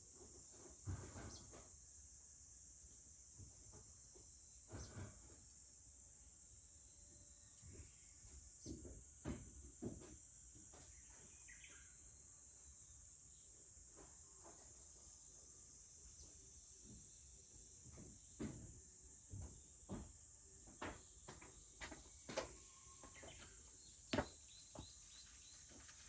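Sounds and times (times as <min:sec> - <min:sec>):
insects droning: 0:00.1 - 0:26.0.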